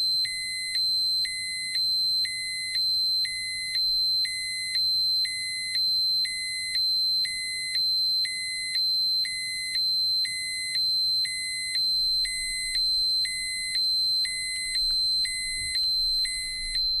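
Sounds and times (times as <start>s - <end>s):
pulsing electronic alarm tone: 0.0s - 17.0s.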